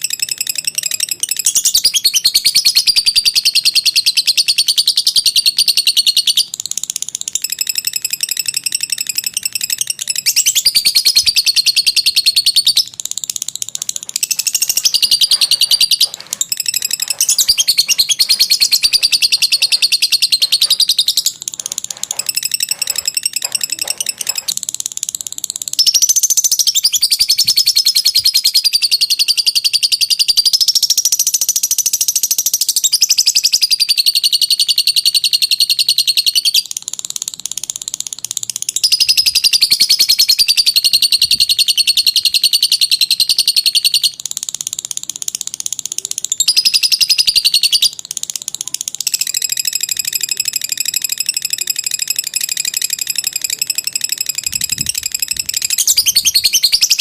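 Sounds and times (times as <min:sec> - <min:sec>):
lovebird chattering trills: 0:00.0 - 0:57.0.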